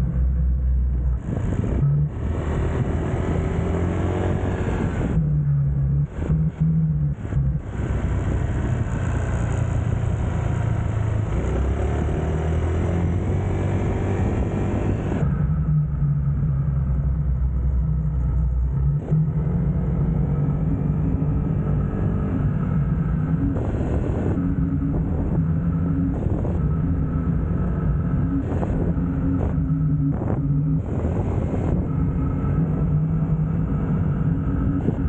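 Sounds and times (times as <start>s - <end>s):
wind noise on microphone: 0.0s - 35.0s.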